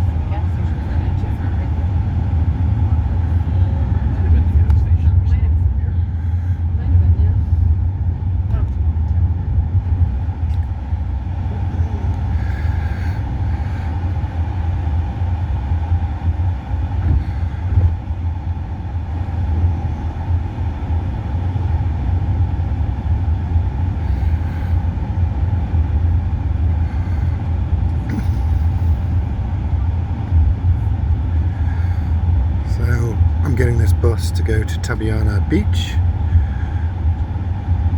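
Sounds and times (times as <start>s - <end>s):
road vehicle rumble: 0.0s - 37.9s.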